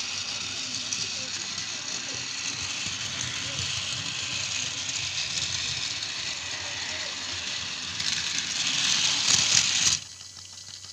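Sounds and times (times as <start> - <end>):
toy train motor whirring: 0.0 - 10.9.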